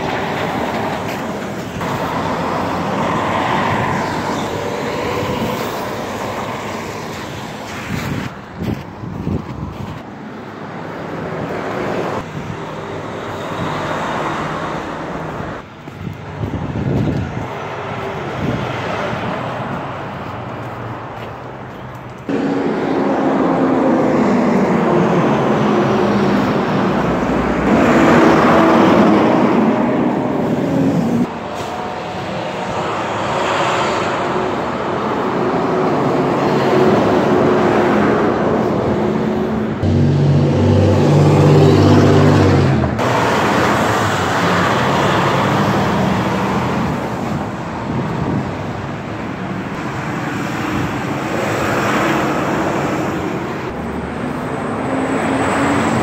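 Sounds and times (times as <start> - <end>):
garbage truck diesel engine: 0.0 - 56.0
traffic passing: 0.0 - 56.0.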